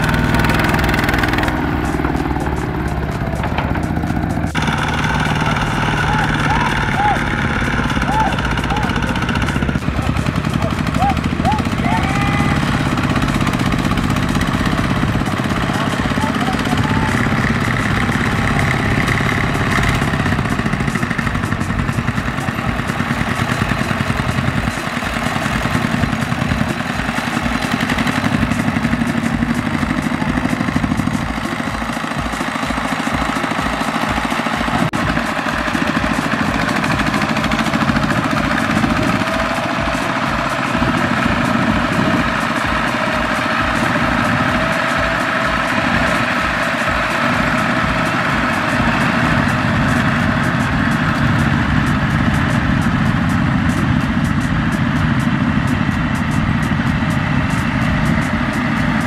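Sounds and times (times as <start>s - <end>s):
diesel engines pulsing: 0.0s - 59.0s.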